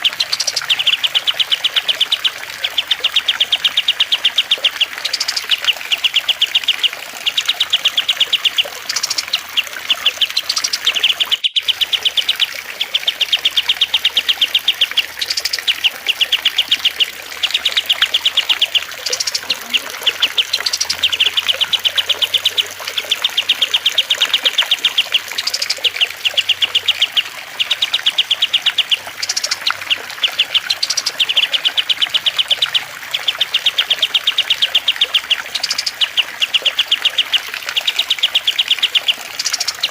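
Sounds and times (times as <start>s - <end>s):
soft trickle of water: 0.0s - 39.9s
songbird chattering trills: 0.0s - 39.9s.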